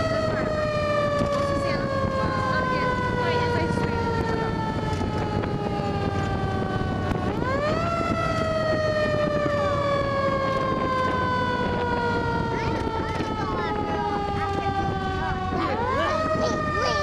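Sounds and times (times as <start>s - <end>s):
fire engine siren: 0.0s - 17.0s
truck rumbling: 0.0s - 17.0s.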